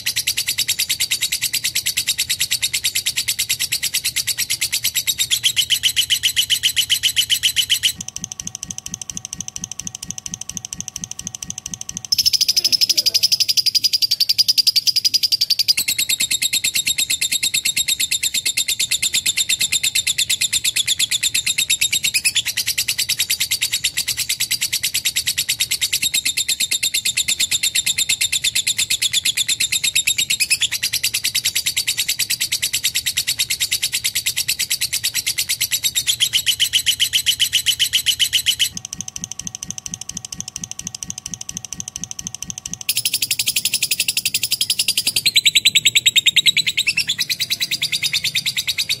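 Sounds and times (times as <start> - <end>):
lovebird trilling chatter: 0.0 - 49.0.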